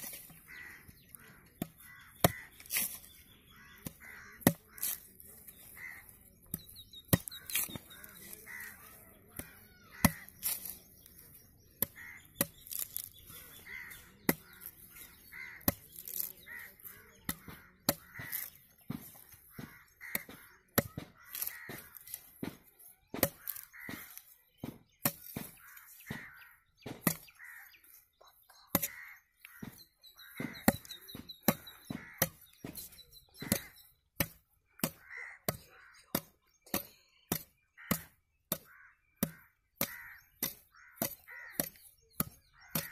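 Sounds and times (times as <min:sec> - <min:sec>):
machete chopping coconut husk: 0:00.0 - 0:28.0, 0:28.7 - 0:42.9.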